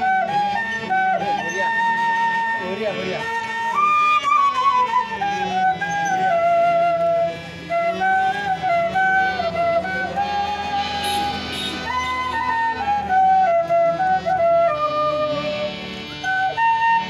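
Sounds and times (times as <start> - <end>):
bamboo flute melody: 0.0 - 17.0.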